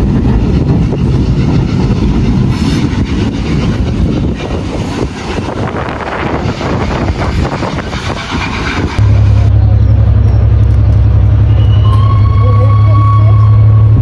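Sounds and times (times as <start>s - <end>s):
steady low drone: 0.0s - 14.0s
train rattling by: 0.0s - 14.0s.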